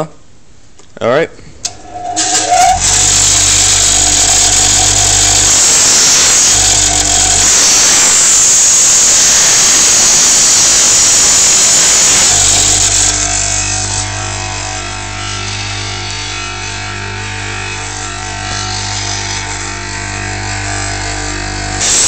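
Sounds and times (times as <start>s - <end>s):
low hum: 1.6s - 20.9s
power tool grinding metal: 1.7s - 22.0s.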